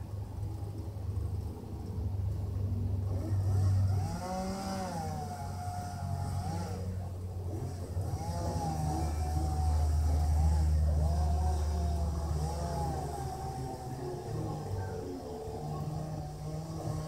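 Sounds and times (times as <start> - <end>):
steady low hum: 0.0 - 17.0
chainsaw cutting wood: 3.1 - 17.0.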